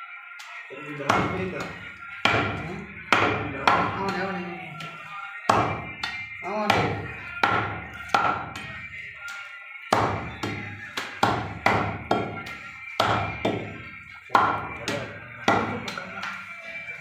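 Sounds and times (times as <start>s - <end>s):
cleaver chopping meat on block: 1.0s - 8.8s, 9.9s - 16.1s.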